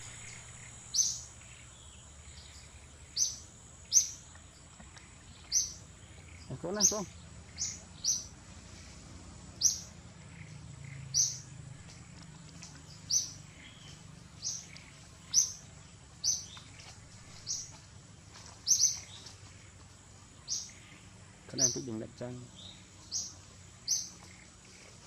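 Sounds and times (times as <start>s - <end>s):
bird chirping: 0.0s - 17.8s, 18.6s - 19.7s, 20.4s - 25.0s.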